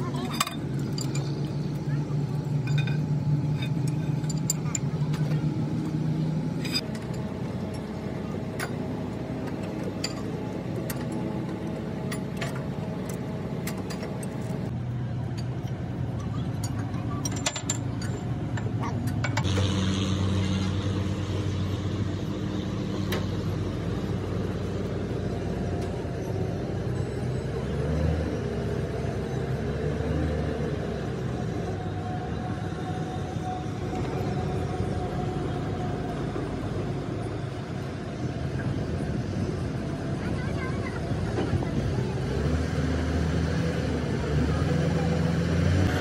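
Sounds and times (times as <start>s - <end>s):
heavy engine running: 0.0s - 46.0s.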